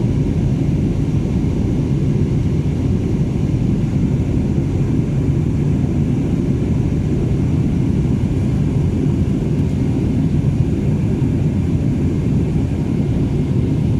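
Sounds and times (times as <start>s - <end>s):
jet engines rumbling in cabin: 0.0s - 13.9s.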